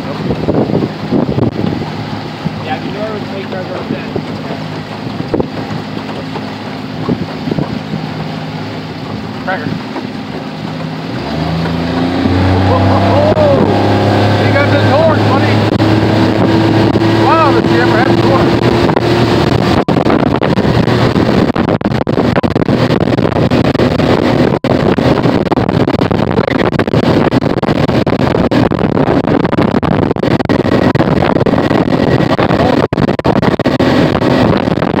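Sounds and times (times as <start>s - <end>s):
outboard motor running: 0.0s - 35.0s
wind buffeting microphone: 0.0s - 35.0s.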